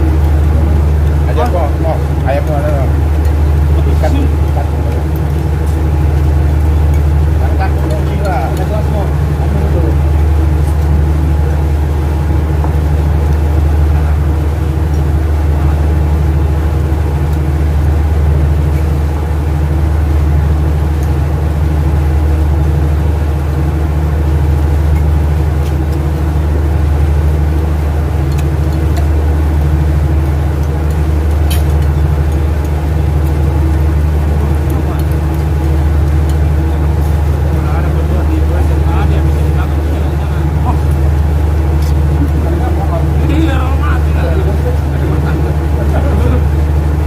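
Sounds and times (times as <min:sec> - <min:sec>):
ship engines droning: 0:00.0 - 0:47.0.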